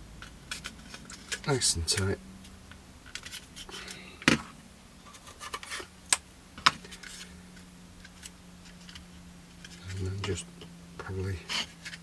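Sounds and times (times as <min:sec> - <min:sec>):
tape and plastic rustling: 0:00.2 - 0:04.4, 0:05.0 - 0:10.4.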